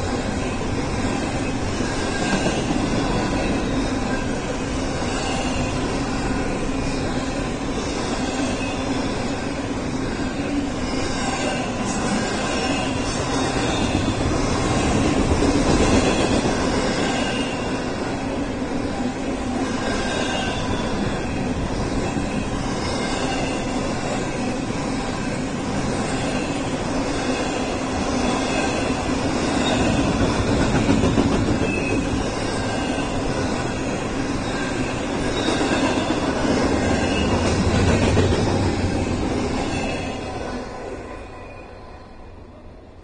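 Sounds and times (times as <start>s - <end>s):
freight train wheels rumbling: 0.0s - 41.2s.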